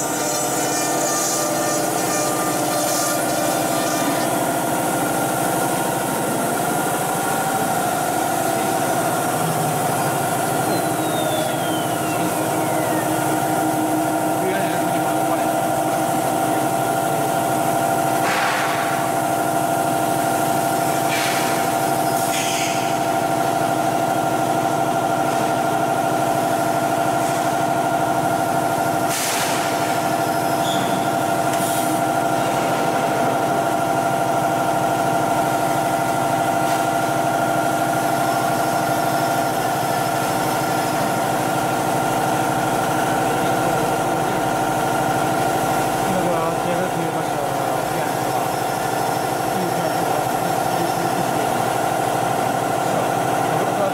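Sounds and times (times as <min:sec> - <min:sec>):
machine hum with held tones: 0:00.0 - 0:53.8.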